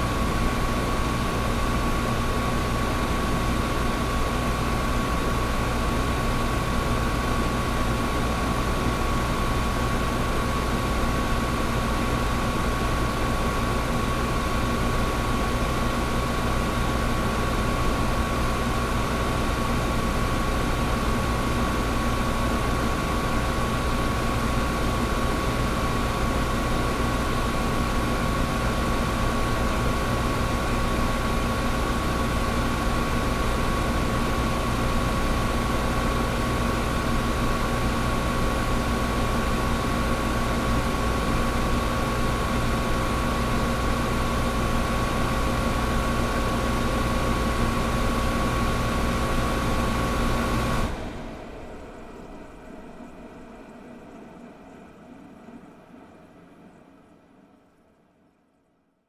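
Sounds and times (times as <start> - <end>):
air conditioner fan air rushing: 0.0 - 56.0
low compressor hum: 0.0 - 57.8
thin steady whine: 0.0 - 58.8.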